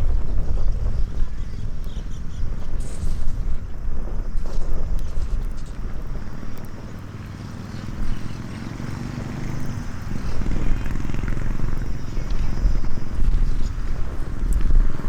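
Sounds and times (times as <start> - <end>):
faint campfire crackles: 0.0 - 15.0
wind: 0.0 - 15.0.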